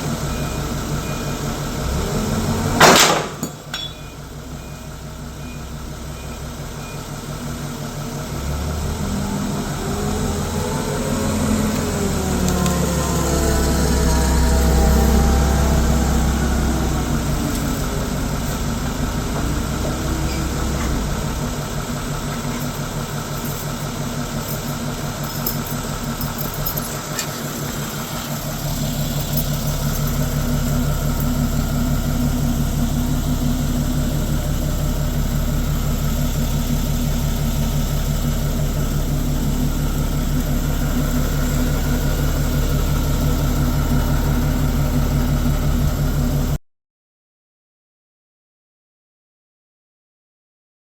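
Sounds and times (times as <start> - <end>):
engine idling: 0.0 - 46.6.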